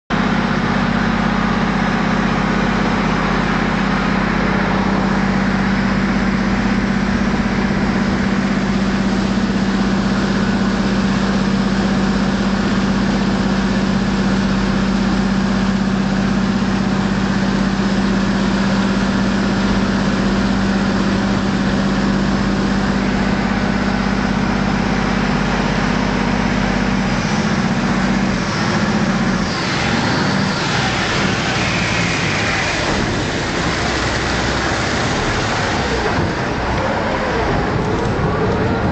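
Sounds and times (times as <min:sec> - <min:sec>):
boat engine running hard: 0:00.1 - 0:38.9
water rushing past hull: 0:02.0 - 0:38.9.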